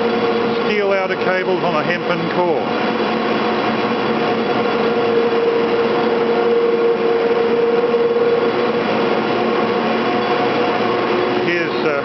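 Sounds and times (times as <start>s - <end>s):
winding machinery humming and whining: 0.0s - 12.0s.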